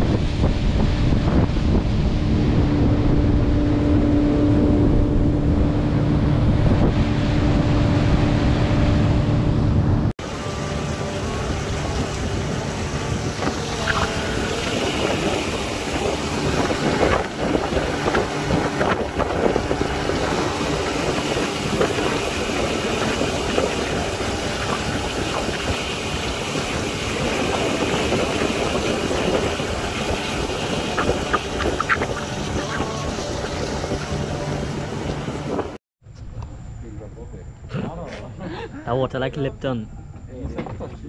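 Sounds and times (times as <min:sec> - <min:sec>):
outboard motor running: 0:00.0 - 0:35.8
wind rushing over microphone: 0:00.0 - 0:37.7.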